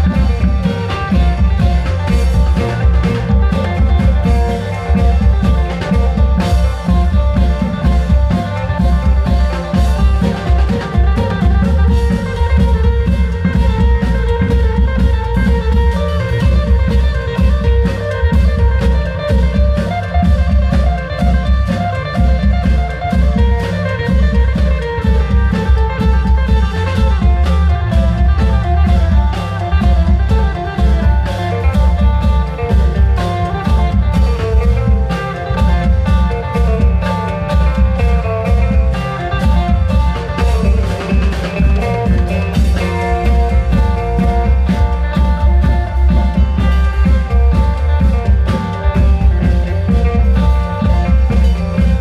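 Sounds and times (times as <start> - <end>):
heavy drum beat: 0.0 - 52.0
long-drum band music: 0.0 - 52.0
plucked-string melody: 0.0 - 52.0.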